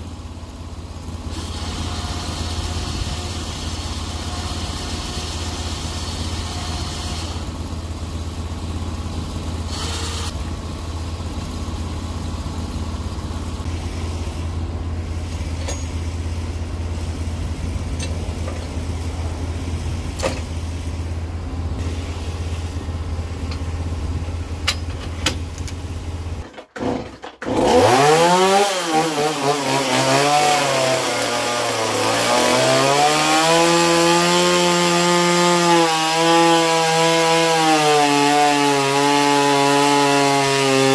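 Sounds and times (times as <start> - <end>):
sawmill gas engine running: 0.0 - 40.9.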